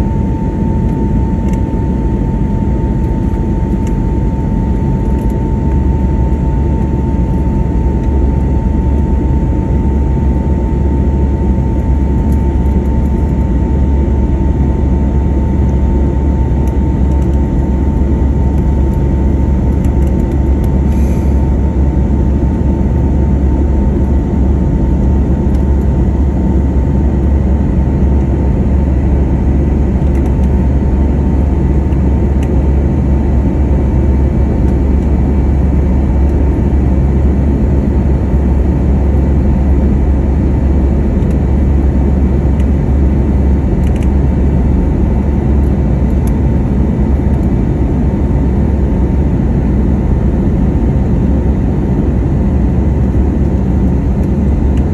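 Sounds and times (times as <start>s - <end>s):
constant engine whine: 0.0s - 54.9s
jet engine cabin rumble: 0.0s - 54.9s.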